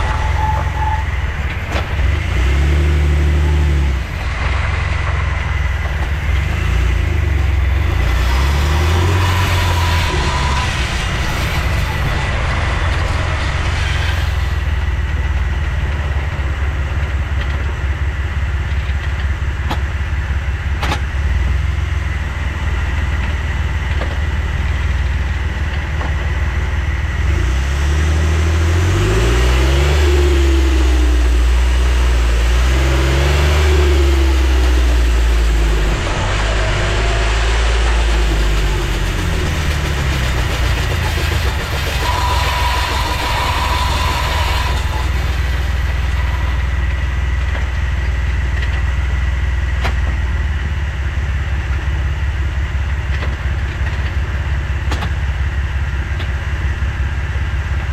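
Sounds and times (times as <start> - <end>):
car engine running: 0.0 - 57.9.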